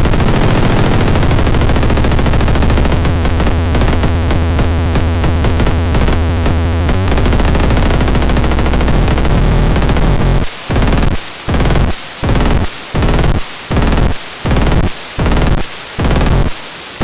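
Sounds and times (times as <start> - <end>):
heavy synth bass: 0.0 - 15.6
stuttering synthesizer rhythm: 0.0 - 16.5.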